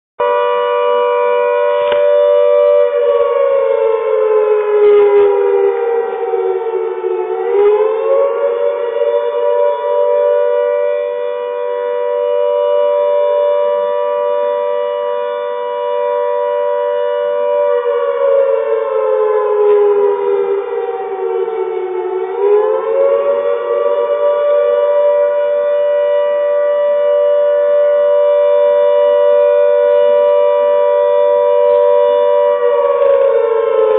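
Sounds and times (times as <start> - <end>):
two-note warning siren: 0.2 - 33.9.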